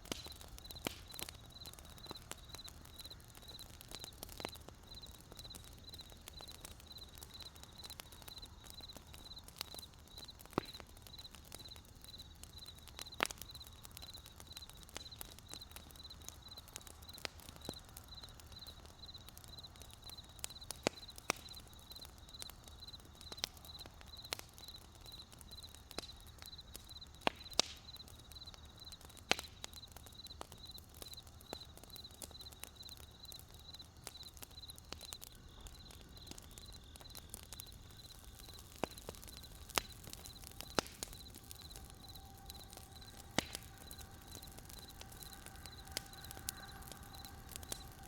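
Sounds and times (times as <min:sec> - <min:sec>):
campfire crackling and popping: 0:00.0 - 0:48.0
cricket chirping: 0:00.2 - 0:29.0, 0:29.7 - 0:48.0.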